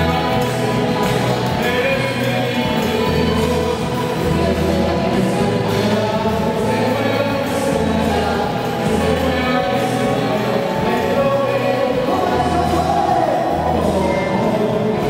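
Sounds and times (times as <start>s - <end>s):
bass notes: 0.0s - 15.0s
choir singing worship song: 0.0s - 15.0s.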